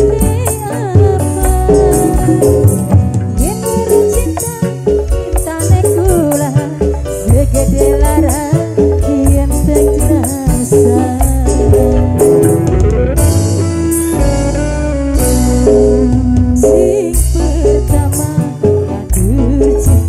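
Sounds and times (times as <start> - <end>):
bass and drum beat: 0.0 - 20.0
busy percussion: 0.0 - 20.0
song over a sound system: 0.0 - 20.0.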